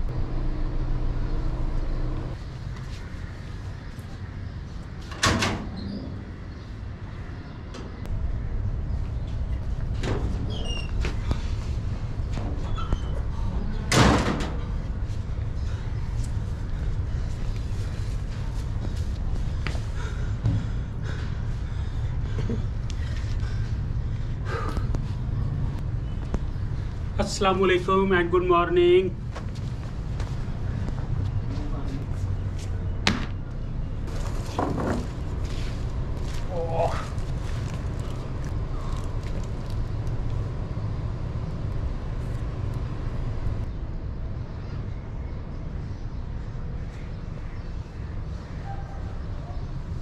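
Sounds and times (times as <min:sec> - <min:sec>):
low outdoor rumble: 0:00.0 - 0:50.0.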